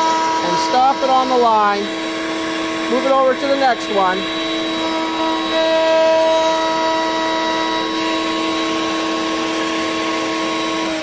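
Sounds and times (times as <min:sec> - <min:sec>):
router motor whining: 0:00.0 - 0:11.0.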